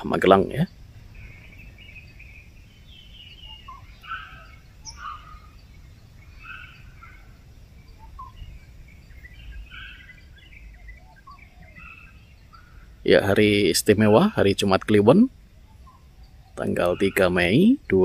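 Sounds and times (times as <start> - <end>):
low outdoor rumble: 0.0 - 18.0
small birds chirping: 0.0 - 18.0.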